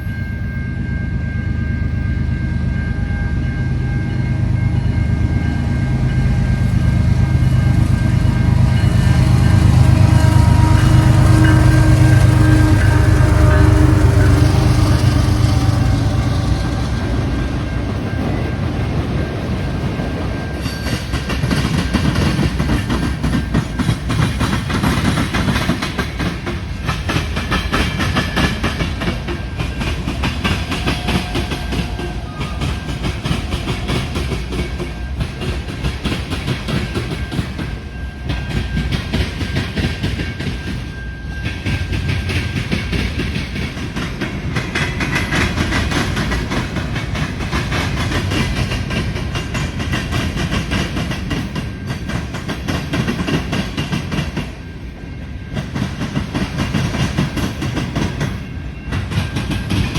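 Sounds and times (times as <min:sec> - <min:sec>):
heavy train rumble: 0:00.0 - 0:59.9
train wheels clicking over rail joints: 0:03.7 - 0:59.9.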